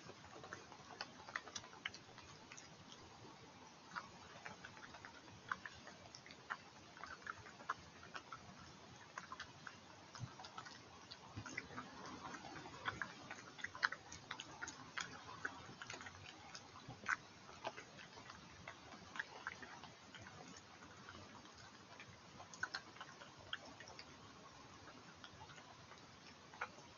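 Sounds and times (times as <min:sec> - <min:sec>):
badger chewing: 0:00.0 - 0:26.9.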